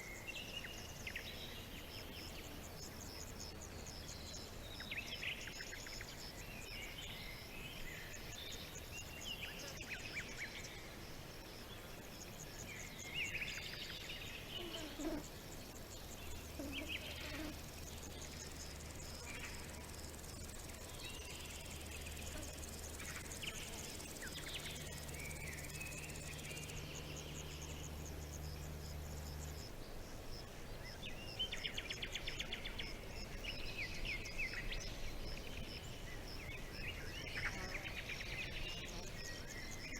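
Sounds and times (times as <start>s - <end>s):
insects chirring: 0.1s - 39.9s.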